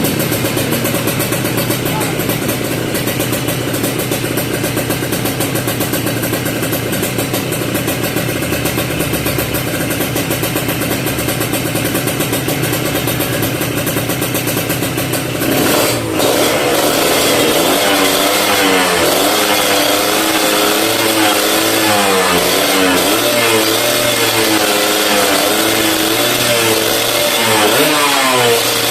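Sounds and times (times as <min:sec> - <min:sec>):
two-stroke motorcycle engine running: 0:00.0 - 0:28.9.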